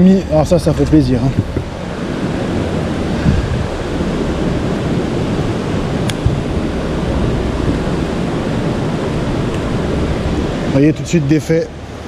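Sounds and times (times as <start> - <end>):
fast river current rushing: 0.0 - 12.0.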